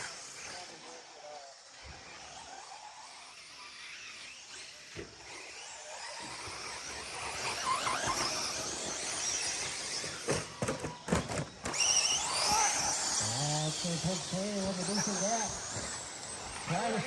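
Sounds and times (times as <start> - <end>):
toy truck motors whining: 0.0 - 17.0.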